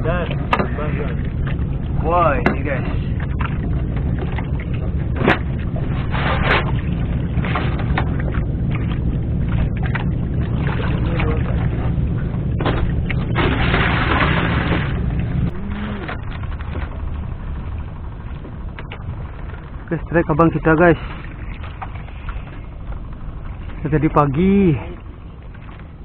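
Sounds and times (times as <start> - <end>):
boat engine humming: 0.0 - 26.0
wind gusts: 0.0 - 26.0.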